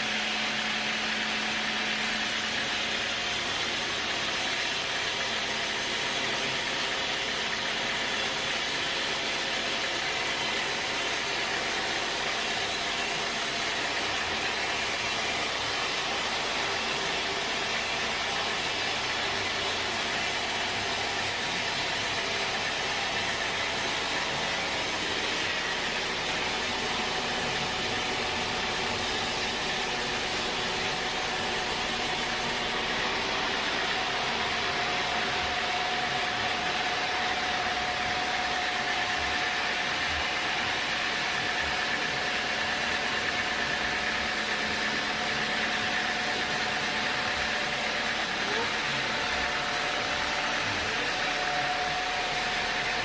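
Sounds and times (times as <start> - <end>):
sawmill machinery running: 0.0 - 53.0.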